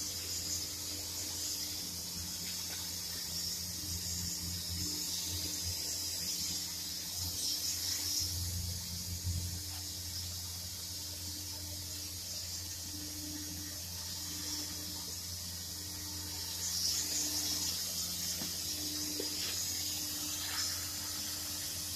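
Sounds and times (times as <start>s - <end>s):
steady hiss: 0.0s - 21.9s.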